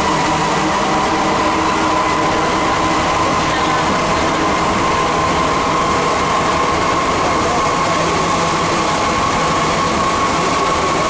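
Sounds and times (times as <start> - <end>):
underground train rumbling: 0.0 - 11.0.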